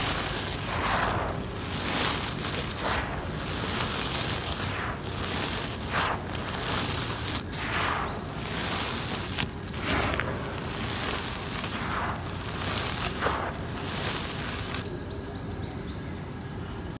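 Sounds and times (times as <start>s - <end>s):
cement powder pouring: 0.0s - 15.3s.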